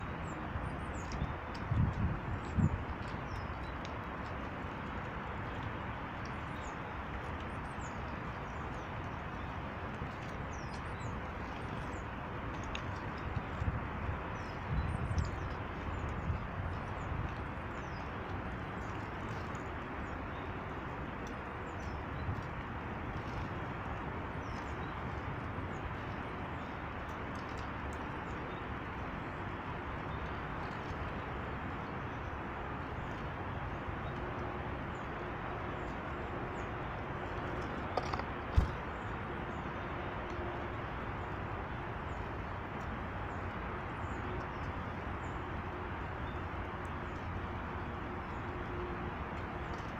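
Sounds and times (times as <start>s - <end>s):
small birds chirping: 0.0s - 41.4s.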